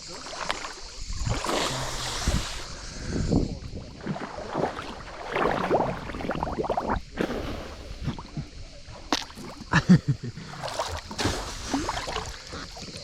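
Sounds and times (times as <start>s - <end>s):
water sloshing and splashing: 0.0s - 9.8s, 10.4s - 13.0s.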